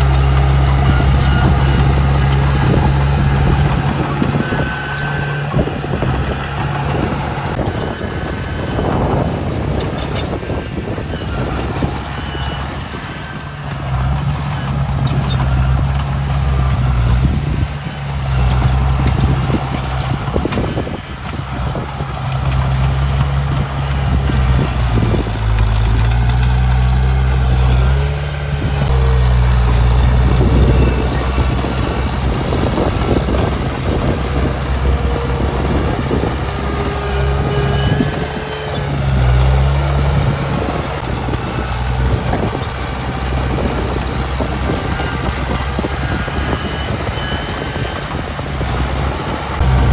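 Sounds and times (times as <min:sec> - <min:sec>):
diesel machinery engine: 0:00.0 - 0:49.9.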